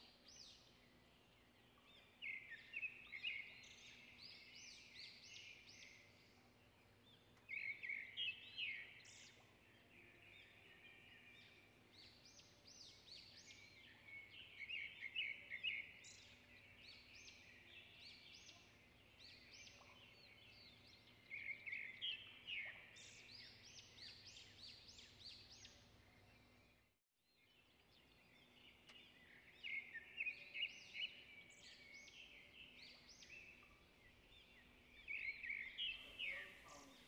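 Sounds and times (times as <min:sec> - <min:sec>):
small birds chirping and trilling: 0:00.0 - 0:37.0.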